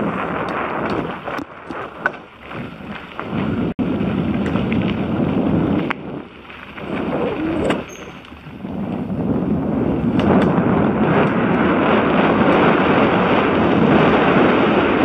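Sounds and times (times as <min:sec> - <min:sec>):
bike clicks and rattles: 0:00.0 - 0:14.6
bike rolling over gravel: 0:00.0 - 0:15.0
wind rushing over microphone: 0:00.0 - 0:15.0.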